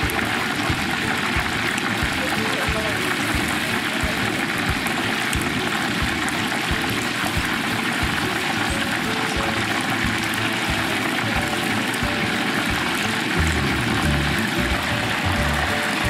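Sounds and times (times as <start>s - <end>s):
oil sizzling in deep fryer: 0.0s - 16.0s.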